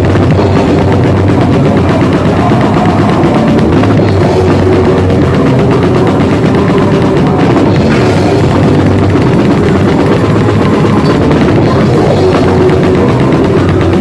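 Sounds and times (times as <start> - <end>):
fast drum hits: 0.0 - 14.0
grindcore band playing: 0.0 - 14.0.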